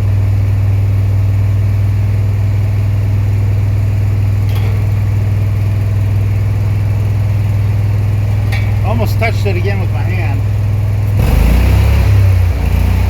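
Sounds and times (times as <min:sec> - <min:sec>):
welder-generator engine running: 0:00.0 - 0:13.0.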